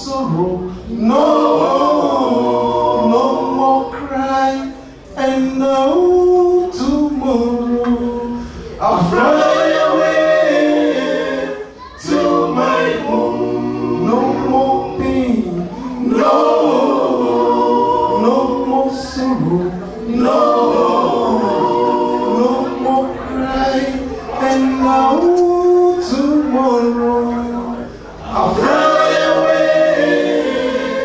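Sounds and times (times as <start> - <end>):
male a cappella group singing: 0.0 - 31.0.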